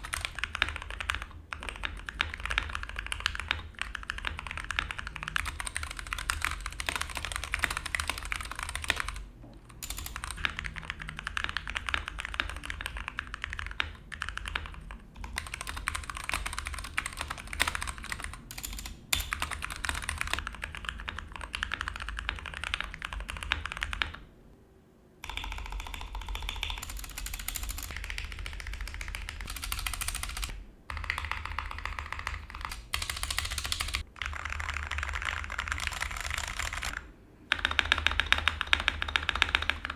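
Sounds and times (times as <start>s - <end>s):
mechanical keyboard typing: 0.0s - 24.3s, 25.2s - 39.9s.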